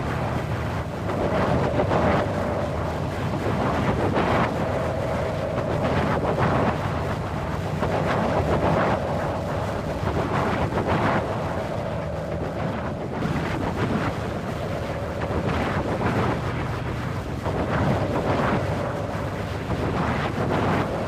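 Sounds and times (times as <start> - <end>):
gusting wind rushing: 0.0 - 21.0.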